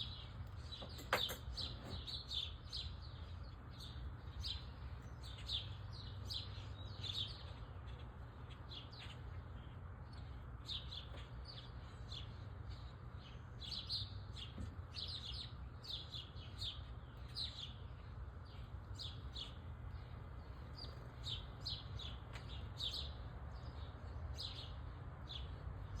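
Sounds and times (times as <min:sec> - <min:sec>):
low steady hum: 0:00.0 - 0:26.0
small birds chirping: 0:00.0 - 0:26.0.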